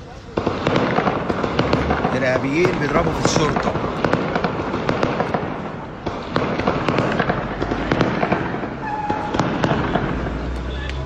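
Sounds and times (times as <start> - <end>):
rapid gunshots: 0.4 - 10.3.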